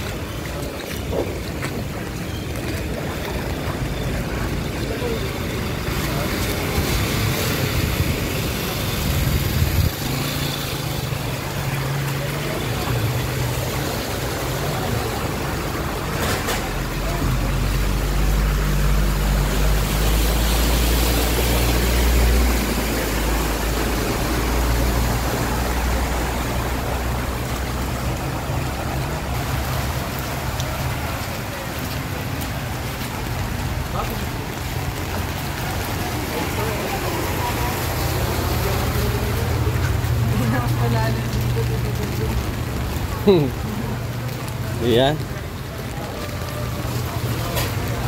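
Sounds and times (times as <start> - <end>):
rain and water noise: 0.0 - 48.0
vehicle engines humming: 0.0 - 48.0
water sloshing around wheels: 0.0 - 48.0.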